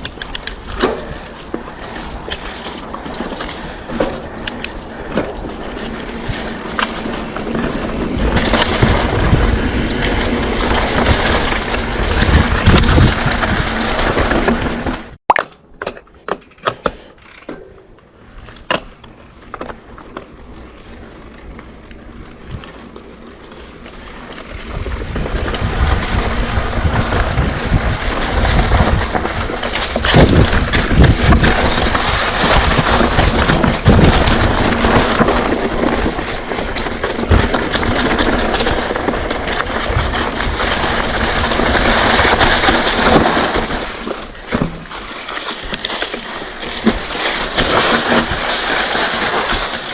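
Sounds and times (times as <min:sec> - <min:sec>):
bike rattling and knocking: 0:00.0 - 0:15.2, 0:15.8 - 0:49.9
bike clicks: 0:00.0 - 0:49.9
bike tyres on dirt trail: 0:00.0 - 0:49.9.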